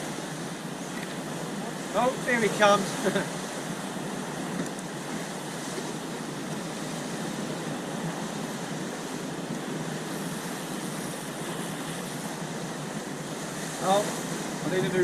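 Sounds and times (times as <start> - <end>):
waves washing against sea wall: 0.0 - 15.0
wind on microphone: 0.0 - 15.0.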